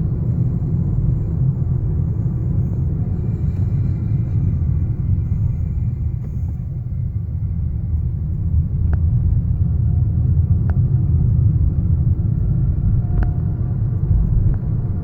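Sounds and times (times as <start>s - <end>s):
car rolling with low rumble: 0.0s - 15.0s.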